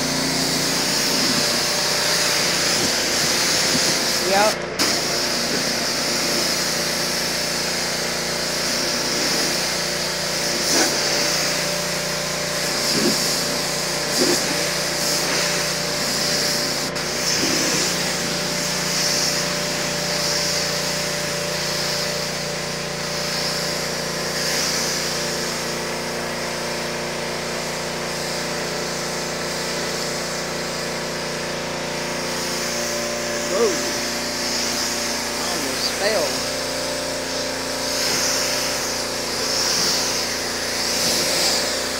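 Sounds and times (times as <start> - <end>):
high-pressure water jet hissing: 0.0 - 41.9
pressure washer motor hum: 0.0 - 41.9.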